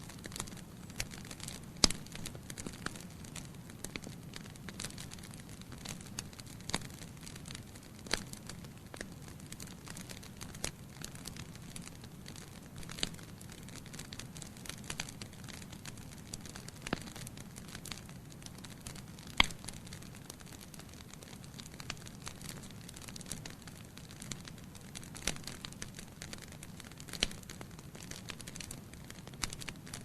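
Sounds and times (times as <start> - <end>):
logs crackling and popping: 0.0 - 30.0.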